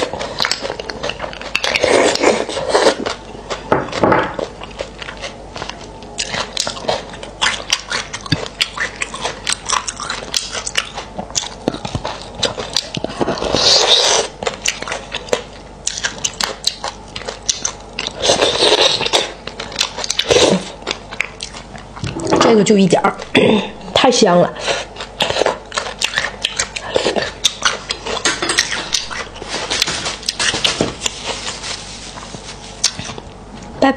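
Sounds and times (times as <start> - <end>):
wet chewing and smacking: 0.0 - 22.3, 24.8 - 33.7.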